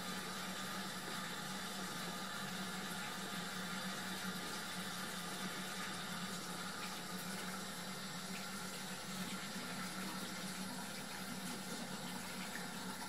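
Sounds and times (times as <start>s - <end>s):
tap running into washbasin: 0.0s - 13.0s.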